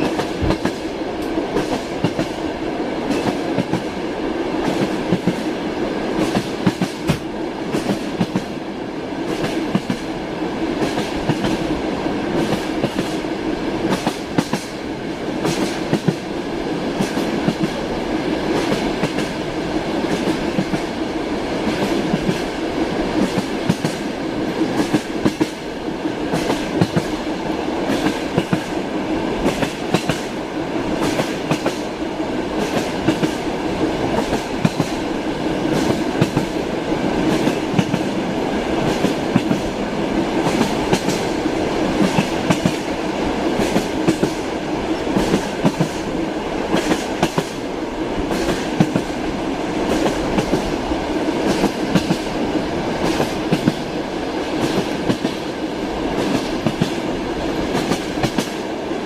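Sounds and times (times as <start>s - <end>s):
train carriage rumbling: 0.0s - 59.0s
train wheels clickety-clack: 0.0s - 59.0s.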